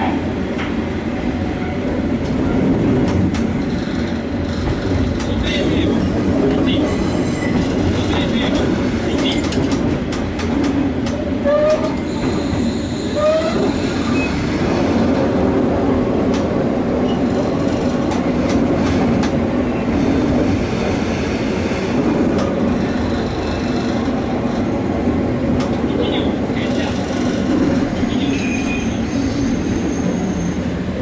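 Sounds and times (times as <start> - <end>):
diesel railcar rumbling: 0.0 - 31.0
rail clicks: 0.5 - 0.9, 2.1 - 30.2.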